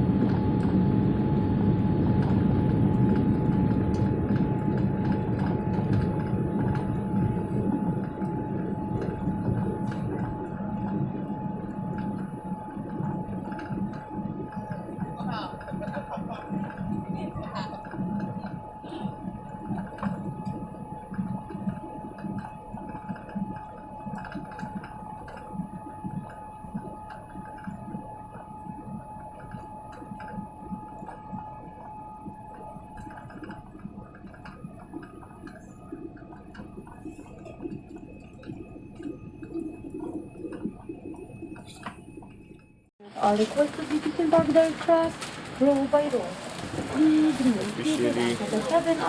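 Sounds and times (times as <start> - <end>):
airplane cabin low rumble: 0.0 - 42.3
steady hum-like tone: 0.0 - 49.0.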